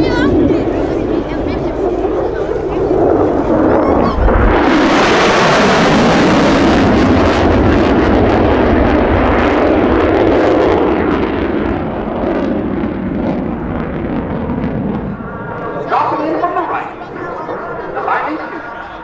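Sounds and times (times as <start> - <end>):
fighter jet passing: 0.0 - 19.0.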